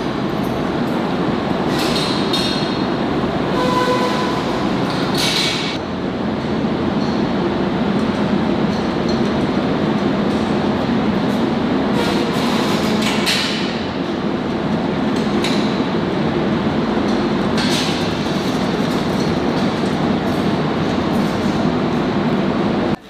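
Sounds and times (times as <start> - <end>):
loud steady rumble: 0.0 - 23.0.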